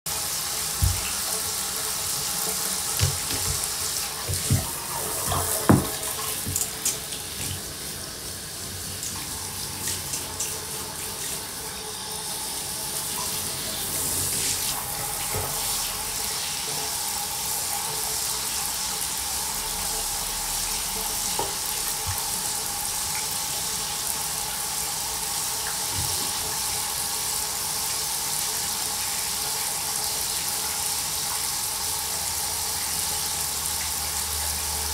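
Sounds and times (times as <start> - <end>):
water running into bathtub: 0.1 - 34.9.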